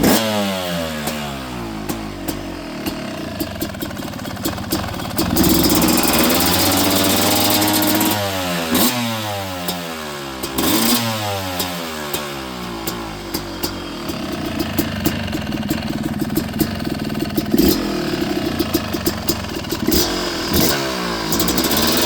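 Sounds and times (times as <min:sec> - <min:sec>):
two-stroke dirt bike engine revving: 0:00.0 - 0:22.0.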